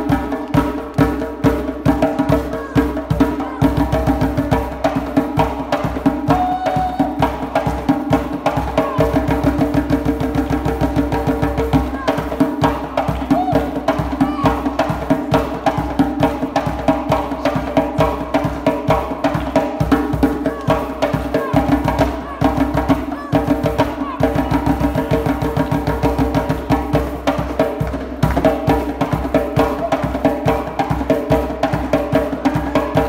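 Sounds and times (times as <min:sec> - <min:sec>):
djembe played fast by hand: 0:00.0 - 0:33.0.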